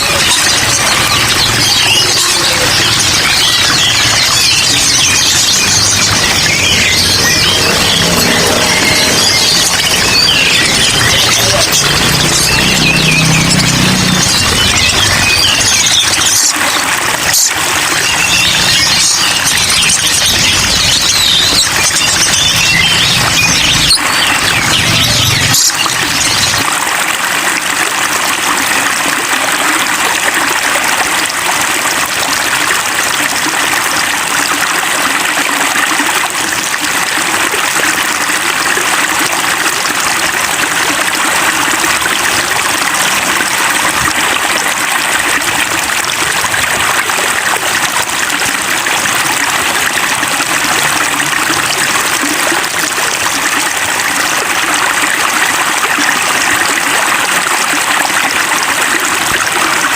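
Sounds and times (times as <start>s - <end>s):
rainwater running and splashing: 0.0s - 59.9s.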